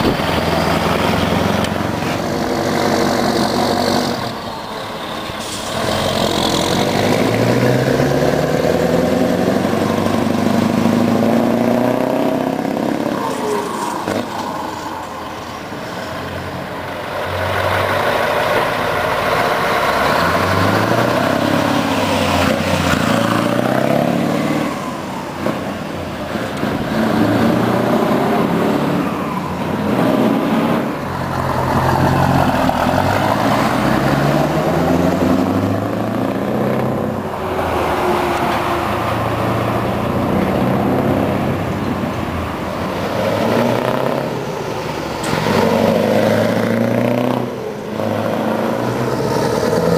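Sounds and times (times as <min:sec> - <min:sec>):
truck engine accelerating: 0:00.0 - 0:49.9.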